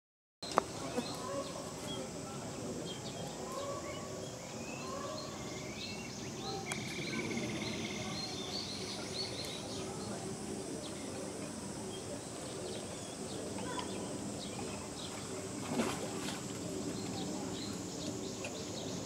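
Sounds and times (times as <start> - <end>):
distant voices: 0.4 - 19.0
high insect hum: 0.4 - 19.0.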